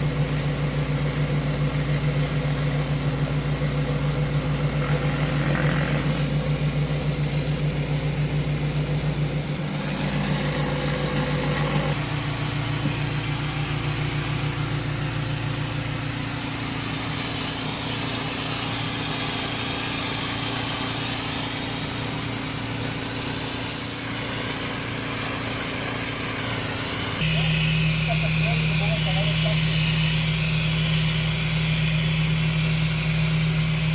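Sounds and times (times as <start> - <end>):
pressure washer engine running: 0.0 - 33.9
spray jet hissing on concrete: 0.0 - 33.9.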